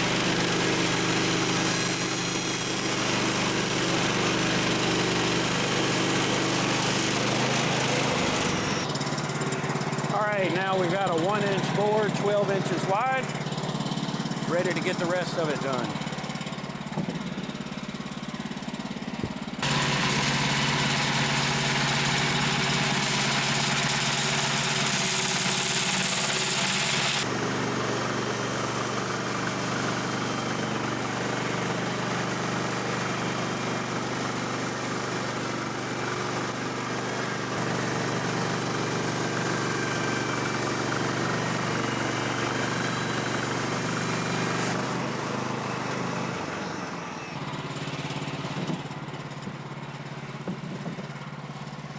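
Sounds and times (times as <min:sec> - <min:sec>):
sawmill gas engine running: 0:00.0 - 0:51.9.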